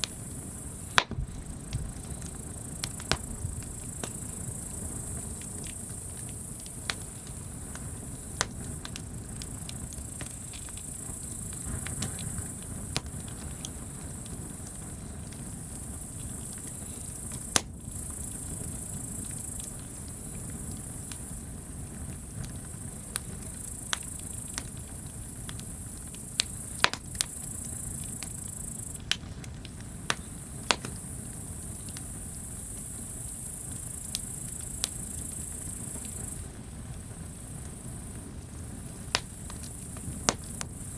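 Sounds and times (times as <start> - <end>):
campfire crackling and popping: 0.0 - 40.9
insects chirring: 0.0 - 40.9.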